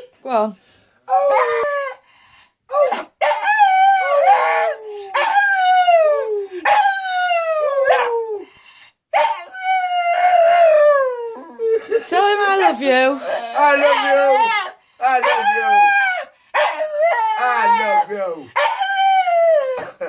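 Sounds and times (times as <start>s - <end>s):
dog howling: 1.1s - 2.0s, 2.7s - 8.5s, 9.2s - 20.0s.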